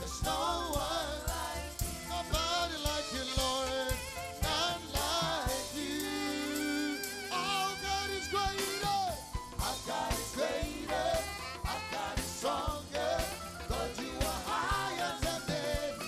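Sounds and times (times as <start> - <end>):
keyboard: 0.0 - 16.0
steady drum beat: 0.0 - 16.0
person singing: 2.1 - 16.0.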